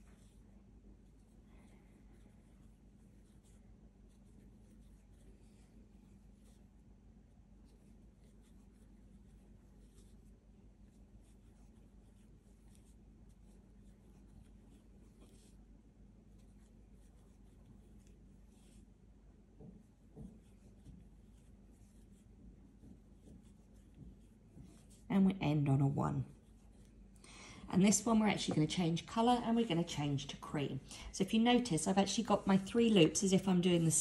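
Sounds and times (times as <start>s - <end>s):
crochet hook scratching yarn: 0.0s - 27.1s, 27.7s - 34.0s
low steady hum: 0.0s - 34.0s.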